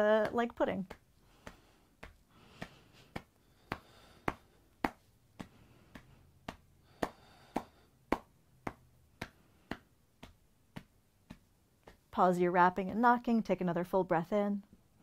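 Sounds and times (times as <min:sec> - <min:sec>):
fist tapping on thigh: 0:00.0 - 0:12.1.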